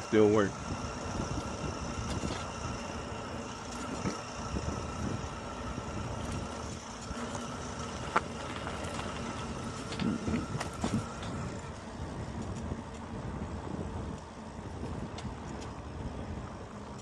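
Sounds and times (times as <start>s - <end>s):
faint high hum: 0.0s - 17.0s
road and vehicle rumble: 0.0s - 17.0s.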